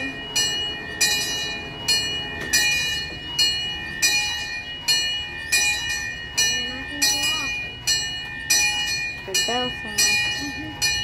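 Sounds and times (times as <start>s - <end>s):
locomotive bell ringing: 0.0s - 11.0s.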